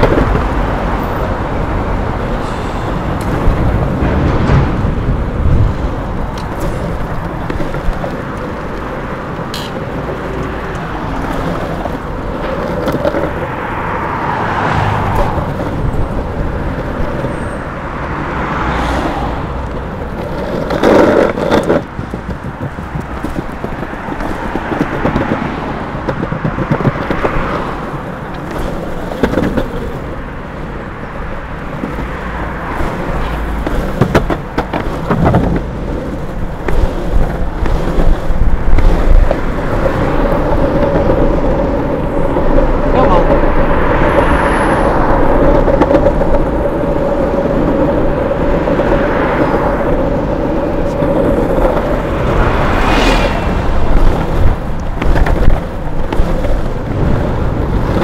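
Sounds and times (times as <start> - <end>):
cars passing: 0.0 - 58.0
longboard wheels rolling on asphalt: 0.0 - 58.0.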